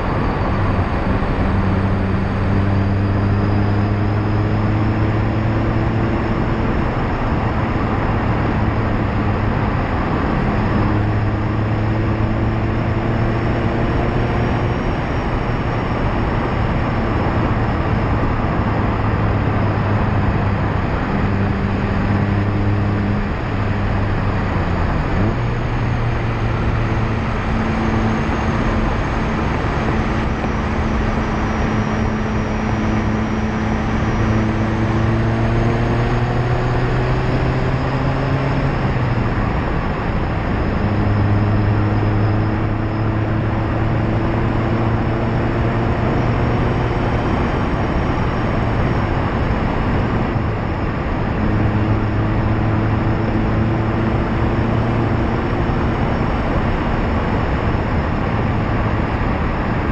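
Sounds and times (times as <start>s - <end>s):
car engine and exhaust: 0.0s - 59.9s
tyre roar on asphalt: 0.0s - 59.9s.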